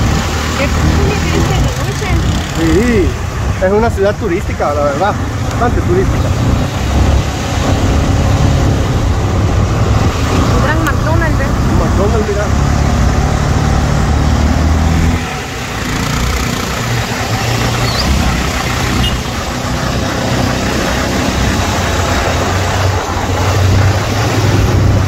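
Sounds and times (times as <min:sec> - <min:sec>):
motorcycle engine running: 0:00.0 - 0:07.3, 0:07.9 - 0:25.0
wind and road noise: 0:00.0 - 0:25.0.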